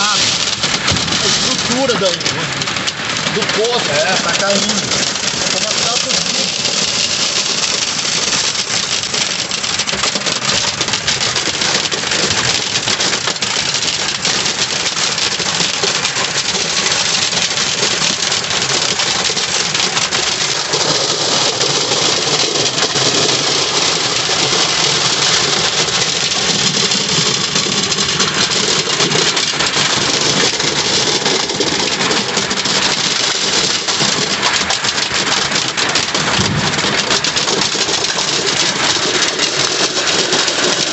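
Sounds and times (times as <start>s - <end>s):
car engine idling: 0.0s - 40.9s
heavy rain drumming on a car: 0.0s - 40.9s.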